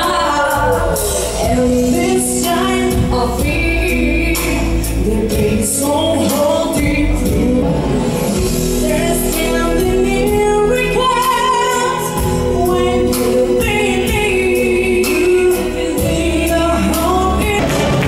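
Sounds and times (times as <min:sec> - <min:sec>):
amplified backing music: 0:00.0 - 0:18.0
woman singing: 0:00.0 - 0:18.0.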